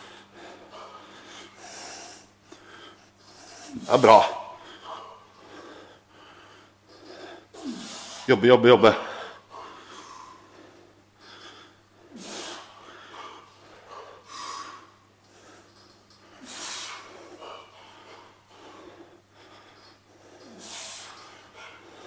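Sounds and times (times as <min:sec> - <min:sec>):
person breathing forcefully: 0:00.0 - 0:08.3, 0:09.0 - 0:22.0.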